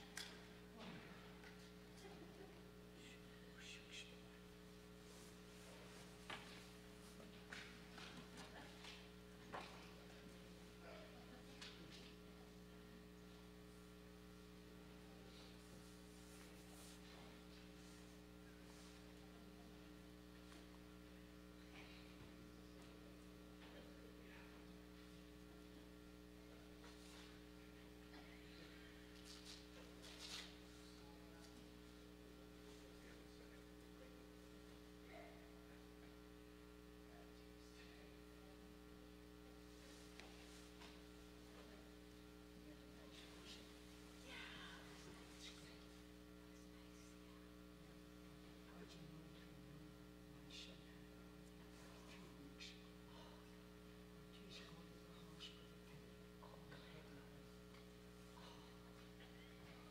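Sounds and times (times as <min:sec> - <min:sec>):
faint mains hum: 0:00.0 - 0:59.9.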